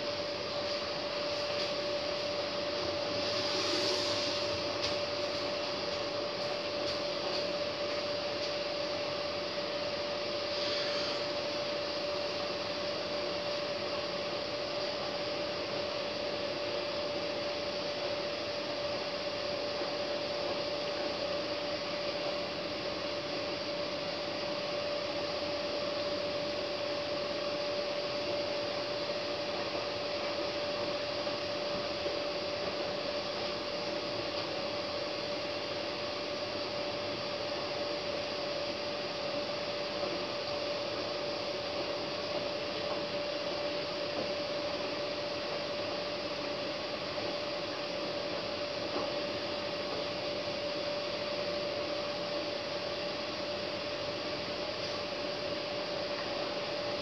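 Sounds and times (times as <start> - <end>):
washing machine whine: 0.0 - 57.0.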